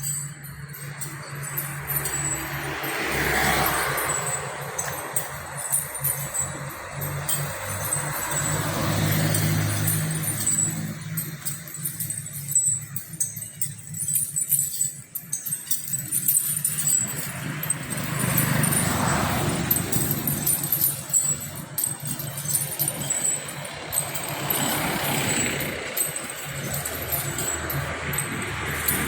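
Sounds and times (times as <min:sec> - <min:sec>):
faint light jangling: 0:00.0 - 0:29.0
low engine hum: 0:00.0 - 0:29.0
motor vehicles passing: 0:00.0 - 0:29.0.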